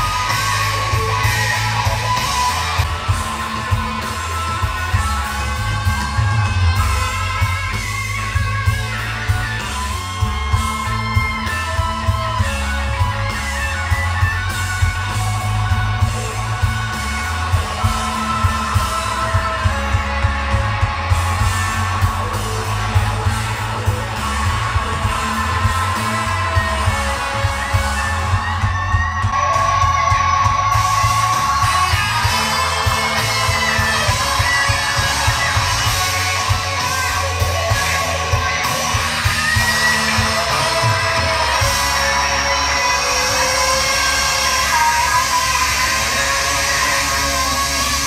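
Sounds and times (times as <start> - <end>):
music with guitar and heavy bass: 0.0 - 48.0.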